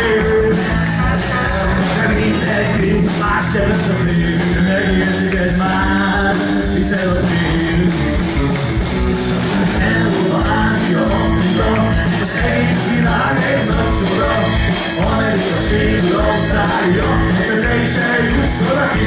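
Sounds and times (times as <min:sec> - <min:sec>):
man singing: 0:00.0 - 0:08.3, 0:09.6 - 0:19.0
live band with electric guitars: 0:00.0 - 0:19.0.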